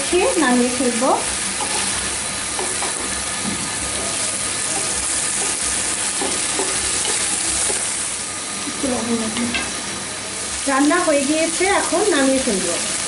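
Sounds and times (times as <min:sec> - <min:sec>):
shrimp sizzling in a pan: 0:00.0 - 0:13.0.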